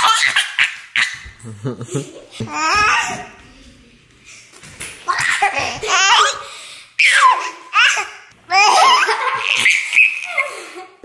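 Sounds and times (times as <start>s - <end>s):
baby and child laughing: 0.0s - 3.8s, 5.0s - 11.0s.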